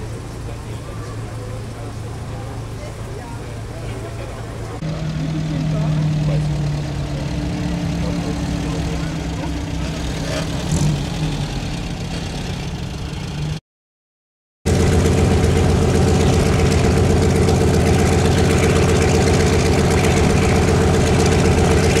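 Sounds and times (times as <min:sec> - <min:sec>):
radial aircraft engine running: 0:00.0 - 0:13.6, 0:14.7 - 0:22.0
vehicle engine hum: 0:00.0 - 0:13.6, 0:14.7 - 0:22.0.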